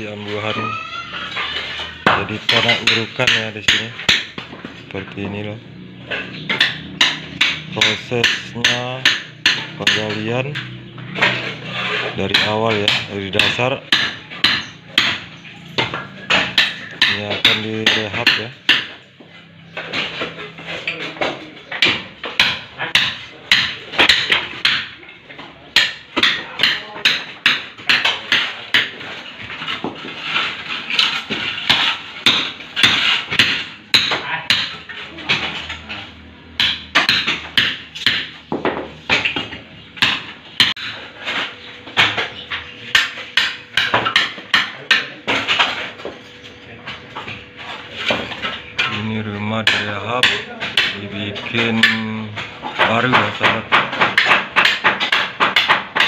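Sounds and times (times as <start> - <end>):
hammer striking chisel on tile: 0.6 - 4.6, 6.1 - 19.0, 19.8 - 25.0, 25.7 - 35.9, 36.5 - 56.0.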